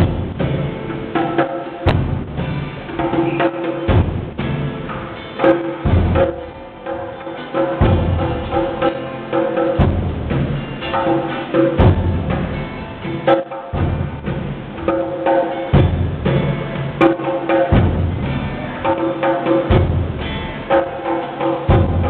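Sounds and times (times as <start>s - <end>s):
bass drum thumping: 0.0s - 7.2s, 7.8s - 9.0s, 9.7s - 19.0s, 19.7s - 20.9s, 21.7s - 22.0s
hand drum strokes: 0.0s - 22.0s.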